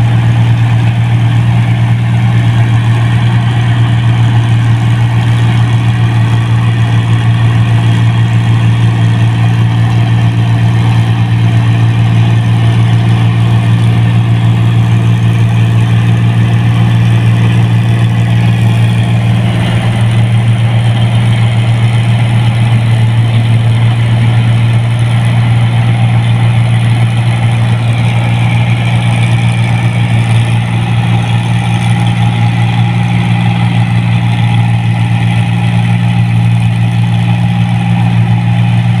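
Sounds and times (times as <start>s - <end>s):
combine harvester engine drone: 0.0s - 39.0s.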